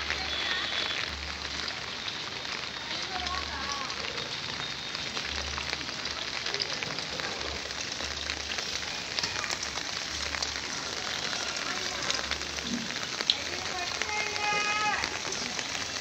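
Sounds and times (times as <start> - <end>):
rain on tiles and puddles: 0.0 - 16.0.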